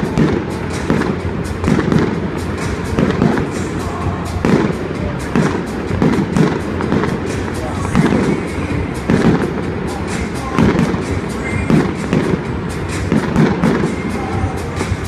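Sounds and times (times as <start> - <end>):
fireworks booming: 0.0 - 15.0
fireworks crackling: 0.0 - 15.0.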